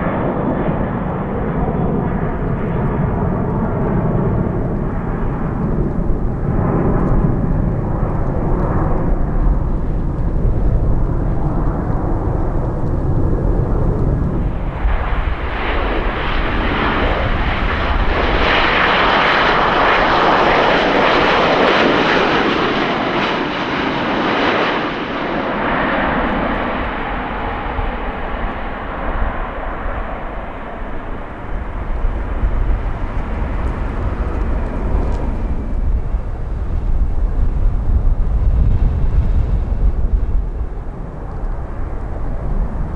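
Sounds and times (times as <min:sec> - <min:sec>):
jet engines passing by: 0:00.0 - 0:42.9.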